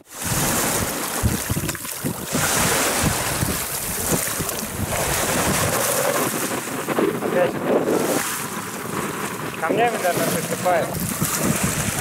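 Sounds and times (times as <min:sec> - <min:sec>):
gusty wind buffeting microphone: 0:00.0 - 0:12.0
waves washing onto pebbles: 0:00.0 - 0:12.0.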